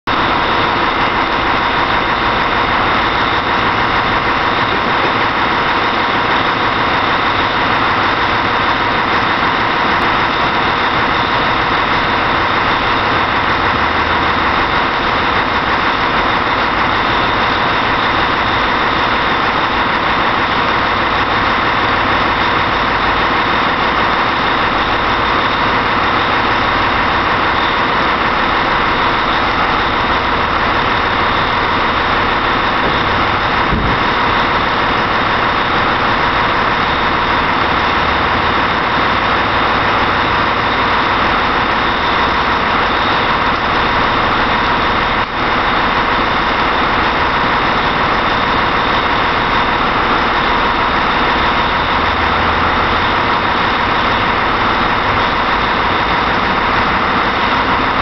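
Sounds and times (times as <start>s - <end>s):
diesel truck engine idling: 0.1s - 58.0s.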